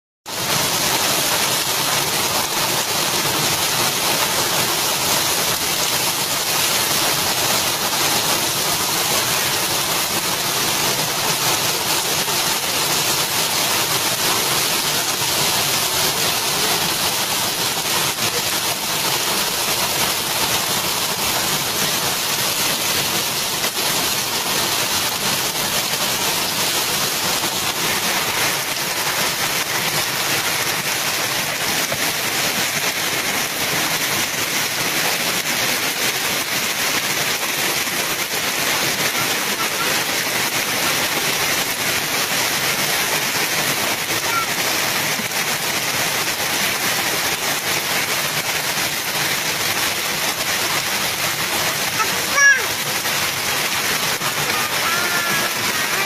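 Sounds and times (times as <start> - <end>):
heavy rain pouring: 0.2 - 56.0.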